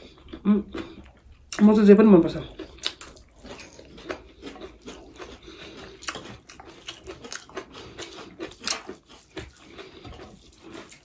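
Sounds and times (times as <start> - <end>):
chewing with mouth clicks: 0.0 - 11.0.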